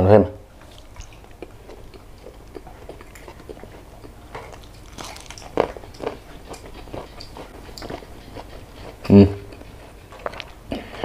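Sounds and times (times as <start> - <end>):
person chewing food: 0.5 - 11.0.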